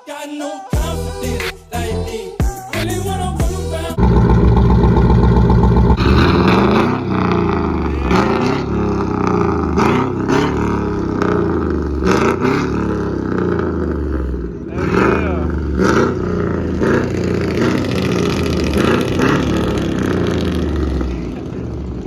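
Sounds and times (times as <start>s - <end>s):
truck engines revving: 2.8s - 22.0s.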